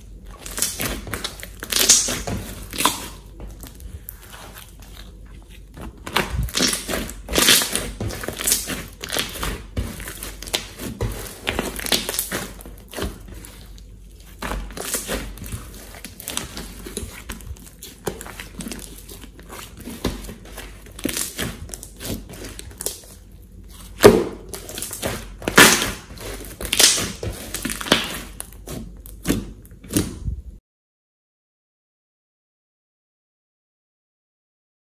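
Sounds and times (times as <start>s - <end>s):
slime squelching and crackling: 0.0s - 30.2s.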